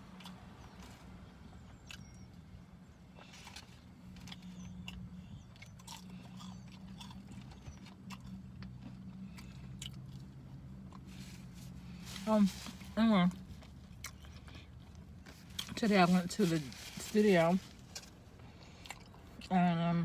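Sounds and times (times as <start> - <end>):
chewing and biting food: 0.0 - 19.6.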